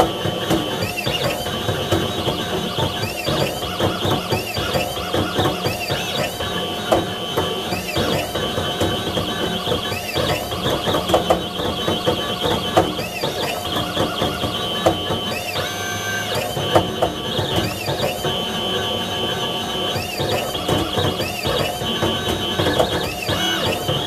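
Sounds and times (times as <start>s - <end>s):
engraving machine motors whining: 0.0s - 24.0s.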